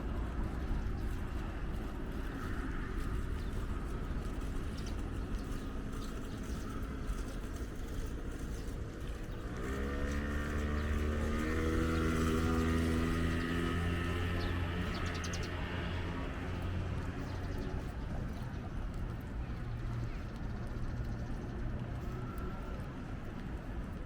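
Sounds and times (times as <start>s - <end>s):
street traffic rumbling: 0.0s - 24.0s
vehicle engine drone: 0.0s - 24.0s.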